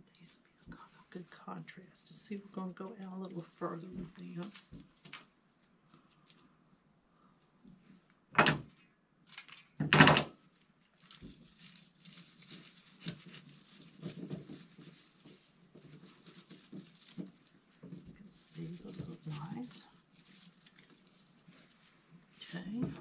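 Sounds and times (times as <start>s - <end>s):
leafy stems rustling: 0.0s - 8.1s, 8.7s - 23.0s.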